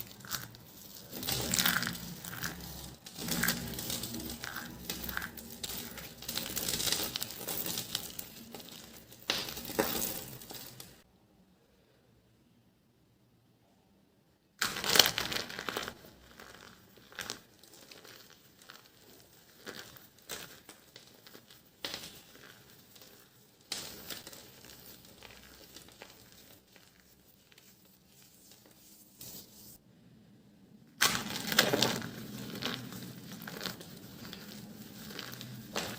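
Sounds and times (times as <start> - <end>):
dry soap crackling and crunching: 0.0 - 11.0, 14.6 - 29.8, 31.0 - 35.9.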